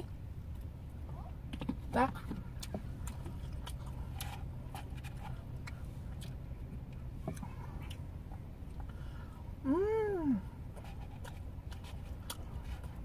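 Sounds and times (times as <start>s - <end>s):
low hum in car cabin: 0.0s - 13.0s
chewing: 0.5s - 9.3s, 10.6s - 13.0s.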